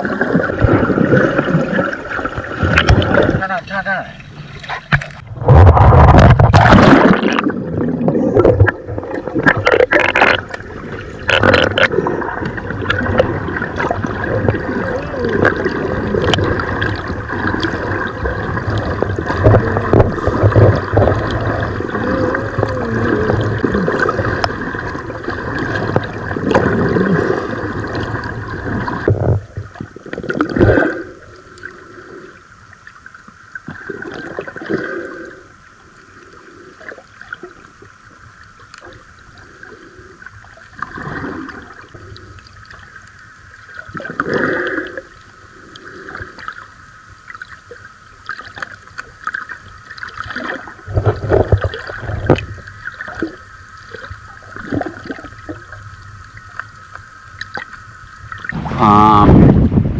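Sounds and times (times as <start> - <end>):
steady hum: 0.0 - 59.9
water gurgling and sloshing: 0.0 - 59.9.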